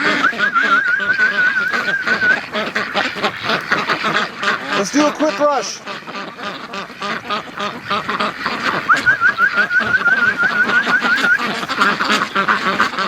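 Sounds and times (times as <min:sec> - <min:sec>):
ducks quacking: 0:00.0 - 0:13.0
fast high repeated calls: 0:00.0 - 0:13.0.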